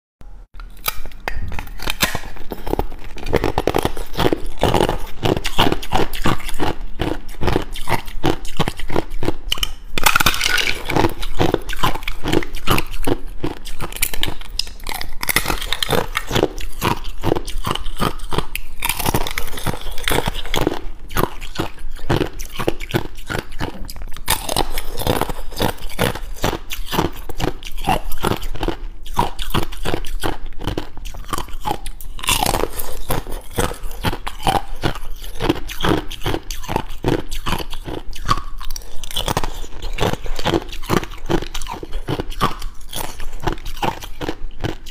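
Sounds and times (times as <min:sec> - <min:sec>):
ice being chewed crunching: 0:00.6 - 0:44.9.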